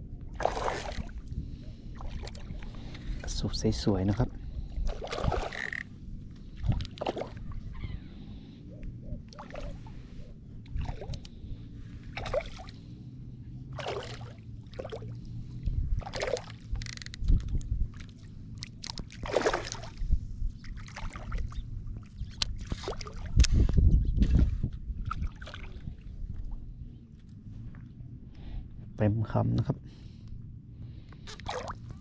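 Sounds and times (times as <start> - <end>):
wind buffeting microphone: 0.0 - 18.5, 19.1 - 29.0
water sloshing and splashing: 0.3 - 8.4, 9.3 - 13.0, 13.7 - 23.6, 24.2 - 28.0, 31.1 - 32.0.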